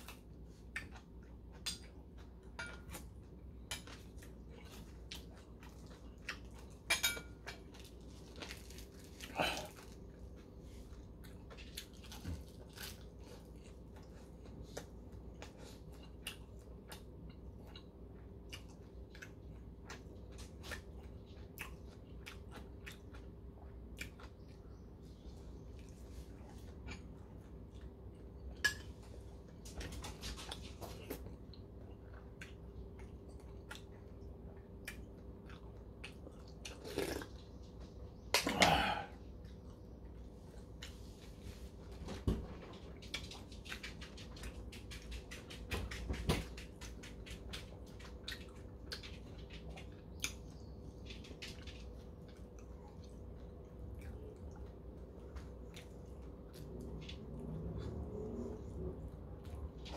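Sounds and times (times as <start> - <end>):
man chewing and lip smacking: 0.0 - 38.5, 46.7 - 59.9.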